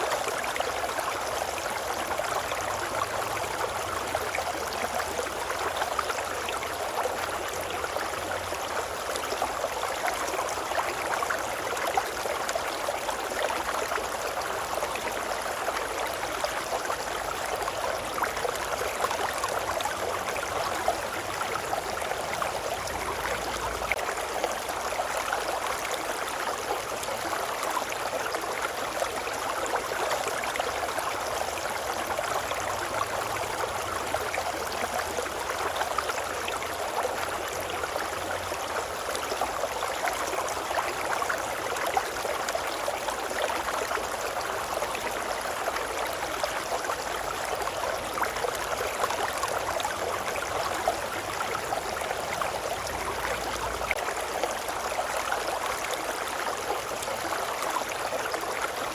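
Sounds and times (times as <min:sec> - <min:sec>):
babbling brook: 0:00.0 - 0:58.9.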